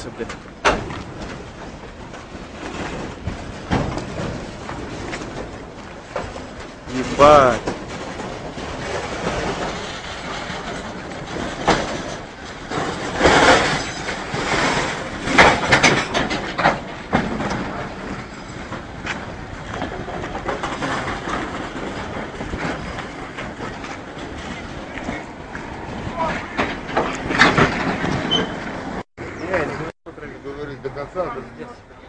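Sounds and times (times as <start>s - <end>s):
train wheels clattering over rail joints: 0.0s - 29.0s.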